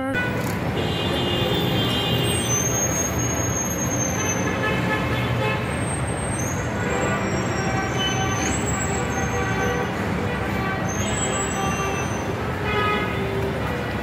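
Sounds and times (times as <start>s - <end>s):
street traffic passing: 0.0s - 14.0s.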